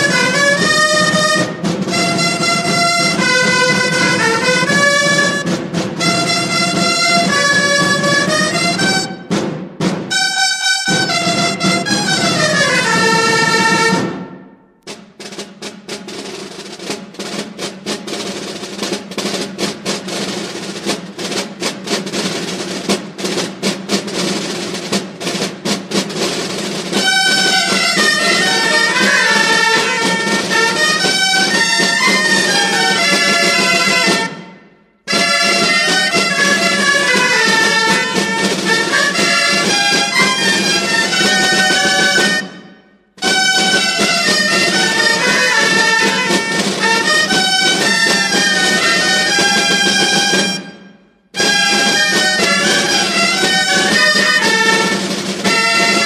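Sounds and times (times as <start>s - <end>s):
wind instruments melody: 0.0s - 15.4s, 24.1s - 56.0s
drumming: 0.0s - 56.0s
festive band music: 0.0s - 56.0s.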